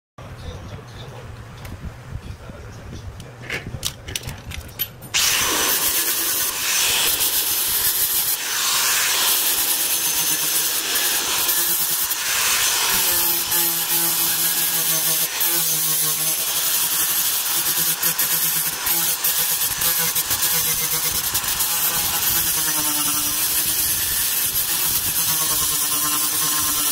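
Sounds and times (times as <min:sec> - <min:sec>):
angle grinder grinding metal: 0:05.1 - 0:26.9.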